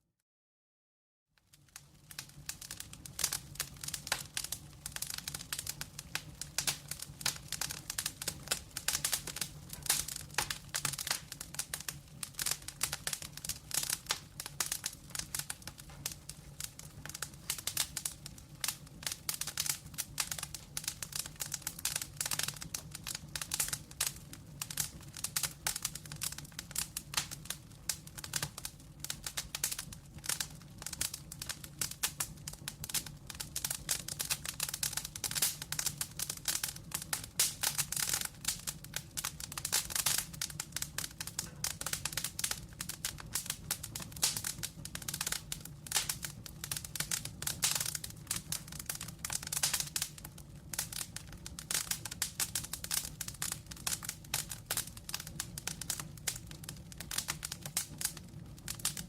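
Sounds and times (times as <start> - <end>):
wood fire crackling: 1.4 - 59.0.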